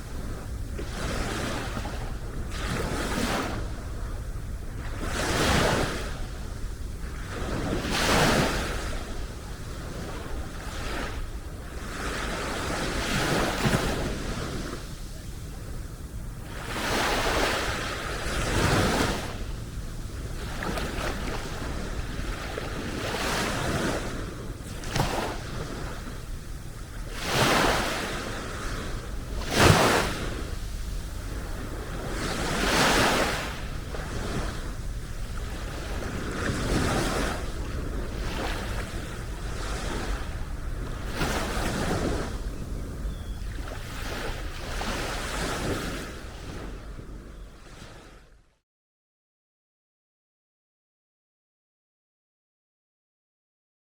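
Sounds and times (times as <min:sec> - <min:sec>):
sea waves breaking on beach: 0:00.0 - 0:48.2
wind rumbling on microphone: 0:00.0 - 0:48.2.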